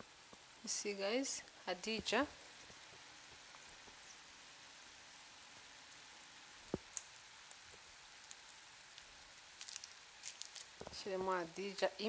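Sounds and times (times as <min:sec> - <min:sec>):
faint sizzling in a frying pan: 0:00.0 - 0:12.0.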